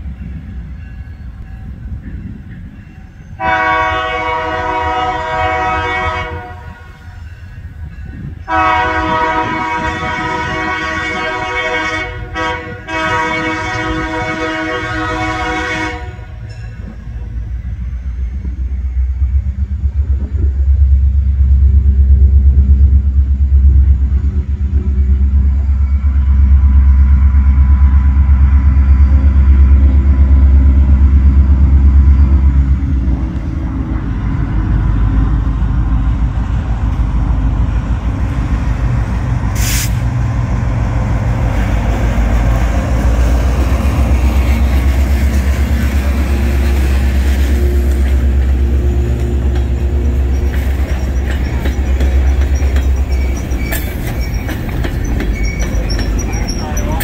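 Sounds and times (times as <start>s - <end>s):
locomotive engine rumble: 0.0s - 57.0s
train wheels on rails: 0.0s - 57.0s.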